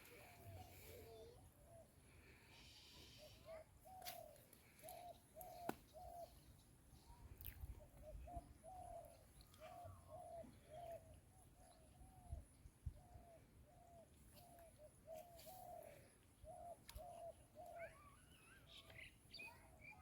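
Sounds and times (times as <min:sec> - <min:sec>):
bird calling faintly: 0:00.0 - 0:20.0.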